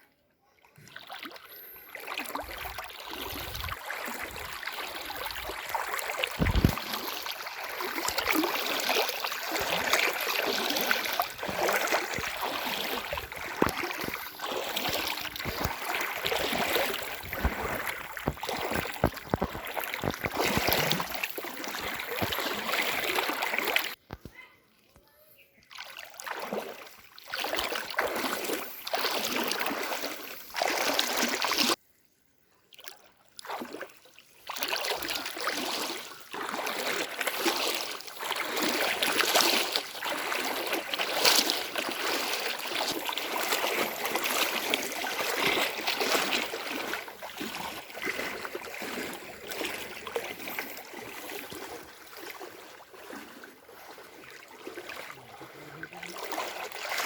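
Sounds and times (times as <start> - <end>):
floodwater sloshing and splashing: 0.6 - 25.0, 25.6 - 31.8, 32.6 - 57.0.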